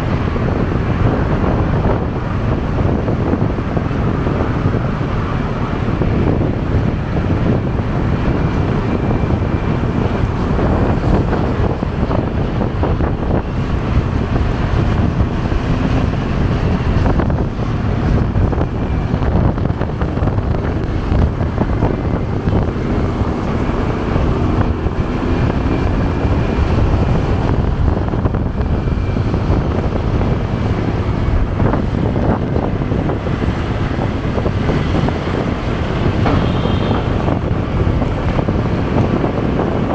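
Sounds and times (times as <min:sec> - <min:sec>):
motorcycle engine: 0:00.0 - 0:39.9
road traffic: 0:00.0 - 0:39.9
wind rushing over microphone: 0:00.0 - 0:39.9.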